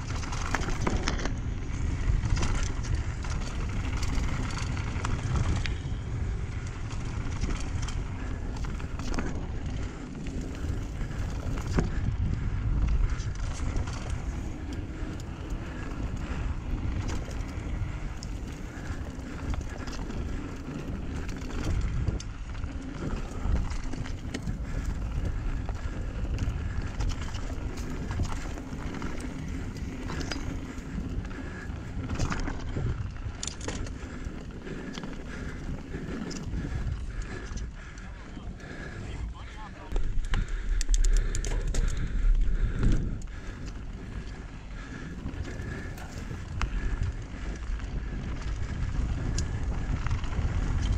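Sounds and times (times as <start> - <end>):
bike rattling over rocks: 0.0 - 50.9.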